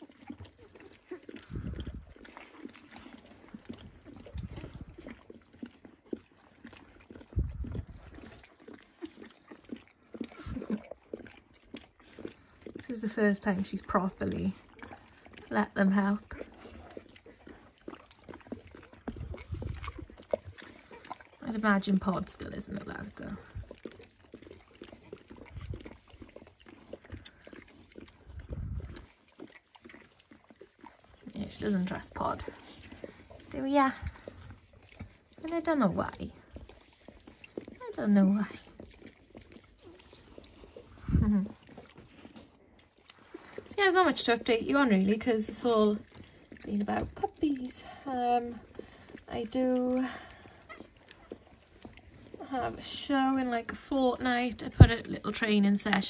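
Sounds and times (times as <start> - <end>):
puppies grunting and snuffling: 0.0 - 56.0.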